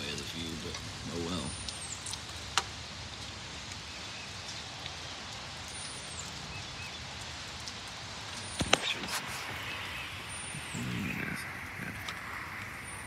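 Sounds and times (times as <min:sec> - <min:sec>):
light rain on trees: 0:00.0 - 0:13.0.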